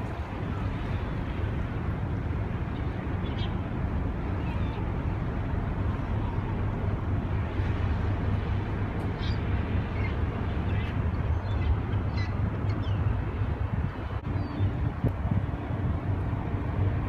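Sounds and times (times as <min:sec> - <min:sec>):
ship engine rumble: 0:00.0 - 0:17.0.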